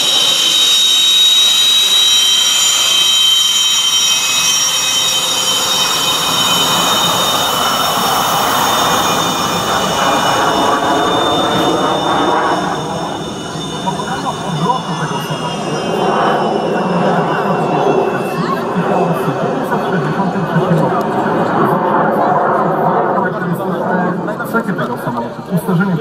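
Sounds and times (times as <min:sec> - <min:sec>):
rushing jet exhaust: 0:00.0 - 0:24.8
jet engines whining: 0:00.0 - 0:26.0.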